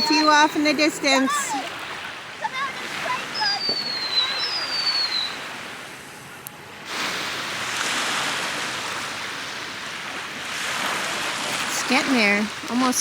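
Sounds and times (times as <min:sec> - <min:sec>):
lake waves washing onto beach: 0:00.0 - 0:13.0.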